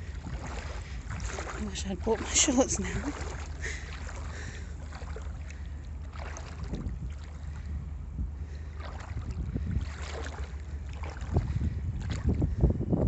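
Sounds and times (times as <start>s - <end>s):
small waves lapping: 0.0s - 12.8s
wind buffeting microphone: 0.0s - 13.0s.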